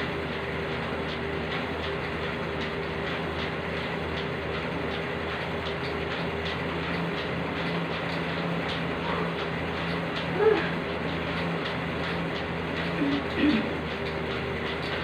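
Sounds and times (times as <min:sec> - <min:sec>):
elliptical trainer whirring hum: 0:00.0 - 0:15.0
light clicks with each stride: 0:00.0 - 0:15.0.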